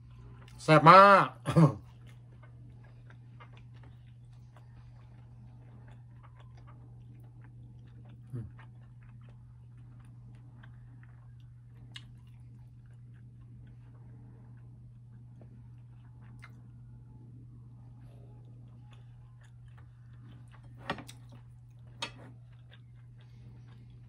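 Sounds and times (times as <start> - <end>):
steady low hum: 0.0 - 24.0
person chewing food: 1.8 - 24.0.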